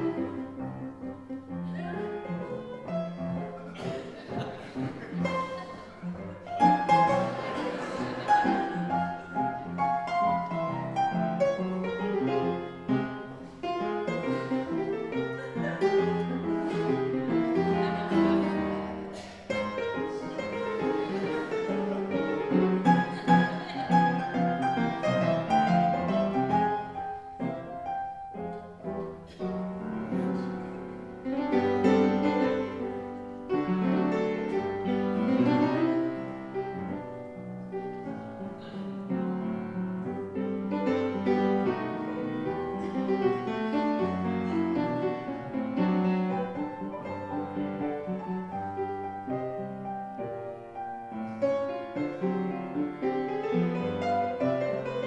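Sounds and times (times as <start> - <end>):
ragtime piano playing: 0.0 - 55.0.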